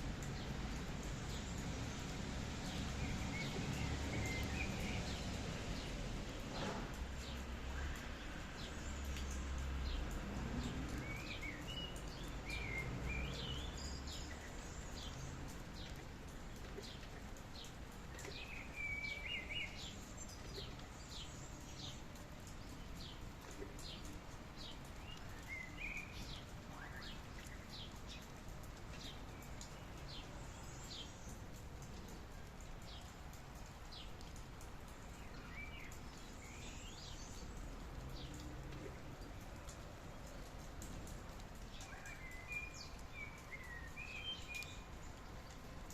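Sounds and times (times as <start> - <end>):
steady rain hiss: 0.0 - 45.9
birds chirping and warbling: 0.2 - 7.4, 10.6 - 45.9.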